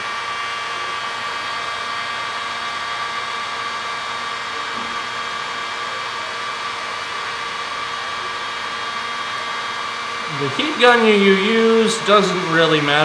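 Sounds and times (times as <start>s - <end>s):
heat gun blowing with fan whine: 1.4s - 13.0s.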